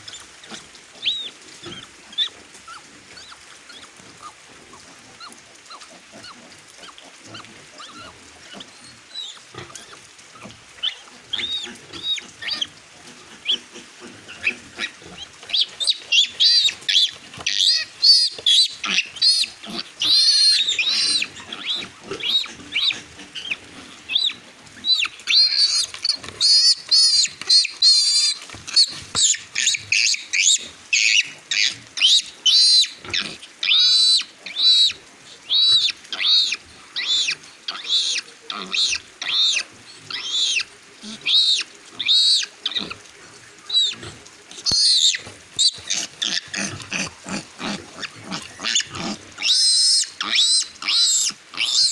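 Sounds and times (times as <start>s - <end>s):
piglet squealing: 5.2s - 12.7s, 14.4s - 43.1s, 43.7s - 51.9s.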